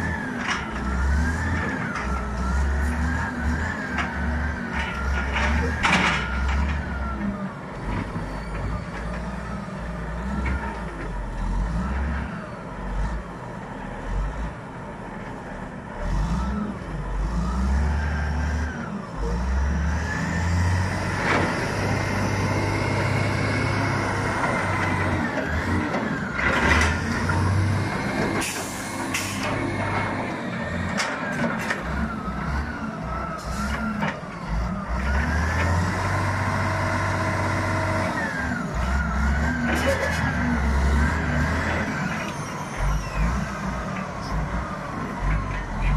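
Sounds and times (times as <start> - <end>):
diesel engine revving under load: 0.0 - 45.9.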